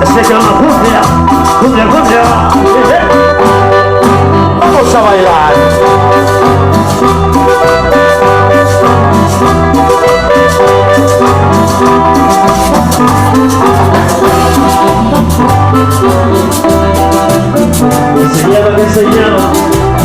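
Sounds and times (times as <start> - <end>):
instrumental cumbia music: 0.0 - 20.0.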